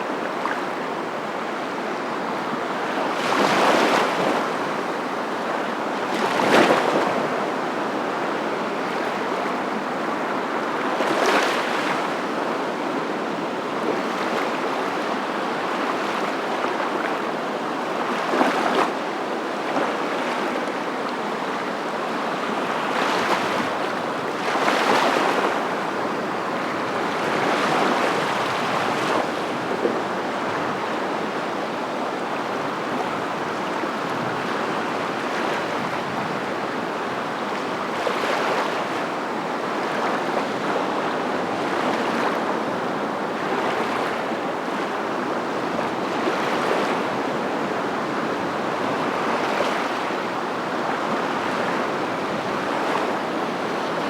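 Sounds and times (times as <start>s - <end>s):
ocean waves breaking: 6.1s - 31.2s, 32.4s - 54.0s.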